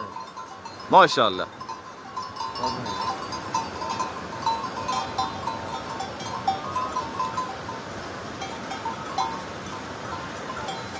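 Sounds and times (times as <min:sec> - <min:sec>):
goat bells clinking: 0:00.0 - 0:10.9.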